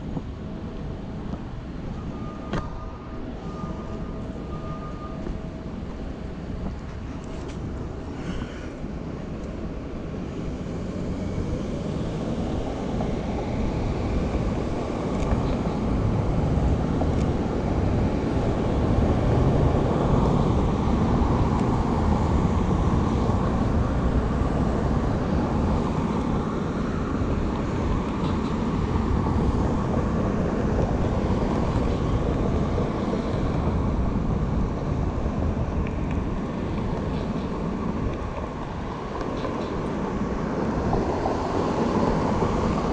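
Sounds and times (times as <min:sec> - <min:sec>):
low city rumble: 0:00.0 - 0:42.9.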